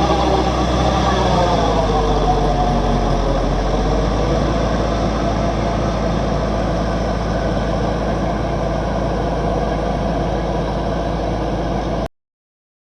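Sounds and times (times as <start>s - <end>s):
heavy vehicle engine rumbling: 0.0s - 12.1s.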